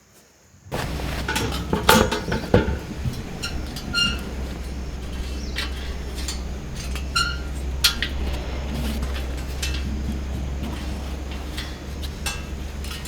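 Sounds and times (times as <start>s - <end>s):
gear clinking and knocking: 0.7s - 13.0s
steady low hum: 0.7s - 13.0s.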